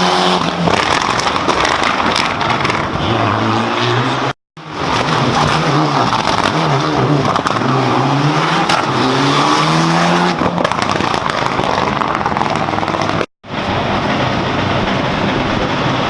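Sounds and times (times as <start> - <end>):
rally car engine revving: 0.0 - 16.0
tyre and road noise: 0.0 - 16.0.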